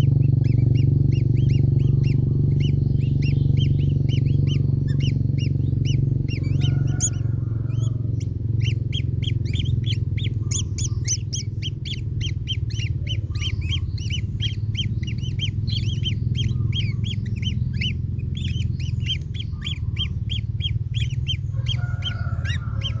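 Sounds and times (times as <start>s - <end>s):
chicks calling: 0.0s - 23.0s
steady low hum: 0.0s - 23.0s.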